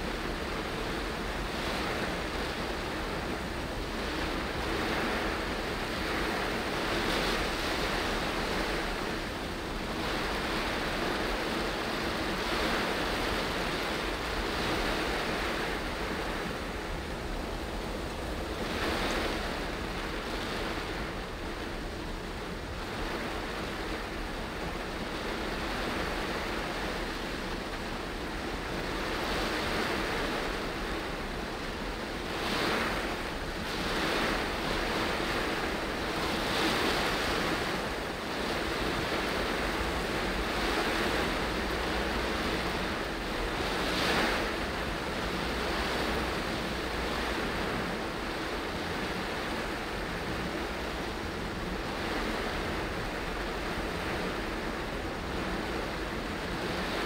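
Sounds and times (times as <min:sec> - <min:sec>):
rain on windscreen and roof: 0:00.0 - 0:57.0.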